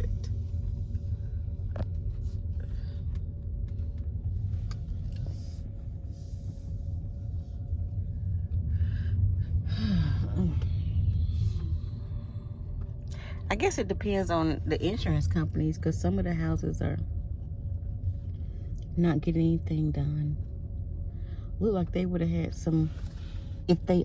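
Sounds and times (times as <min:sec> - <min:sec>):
car driving rumble: 0:00.0 - 0:24.0.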